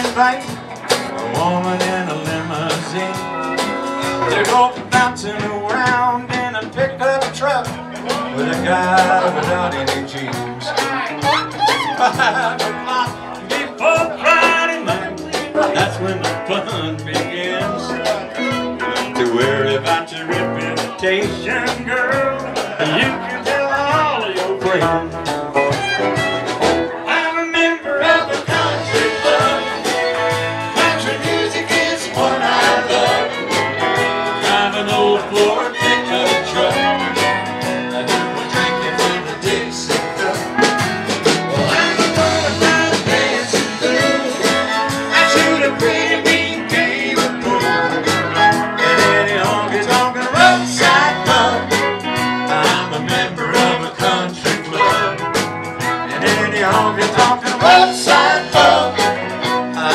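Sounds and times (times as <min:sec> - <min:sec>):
live country band playing: 0:00.0 - 0:59.9.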